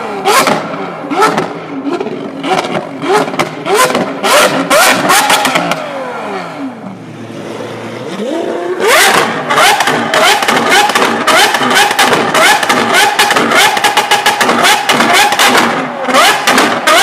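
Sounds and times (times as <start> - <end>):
car engine revving: 0.0 - 17.0
exhaust cracks: 0.2 - 5.9, 8.8 - 17.0.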